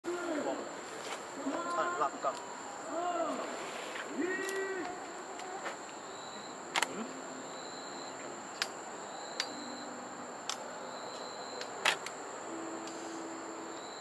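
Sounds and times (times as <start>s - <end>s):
high-pitched insect trill: 0.1s - 14.0s.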